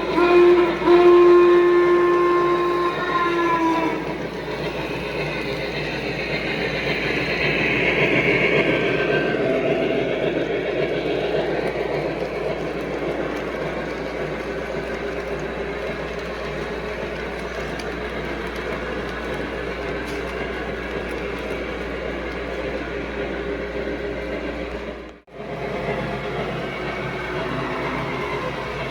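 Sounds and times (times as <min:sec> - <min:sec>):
model train rumbling on track: 0:00.0 - 0:28.9
model train steam sound effects: 0:00.0 - 0:28.9.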